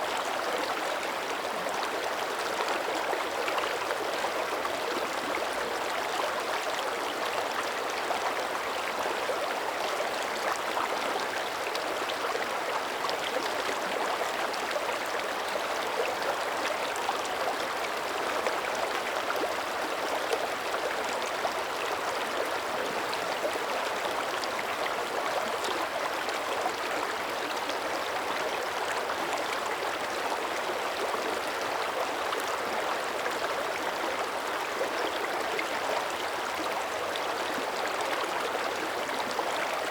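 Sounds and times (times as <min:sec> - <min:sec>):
creek flowing over rocks: 0:00.0 - 0:39.9.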